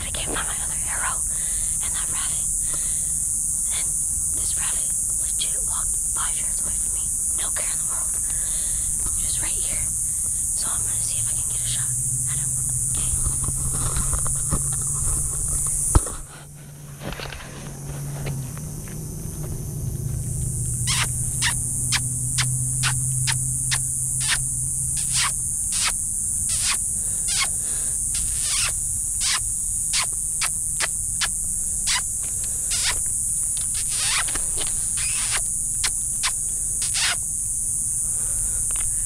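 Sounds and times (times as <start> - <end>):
faint low hum: 0.0 - 39.0
insect buzzing drone: 0.0 - 39.0.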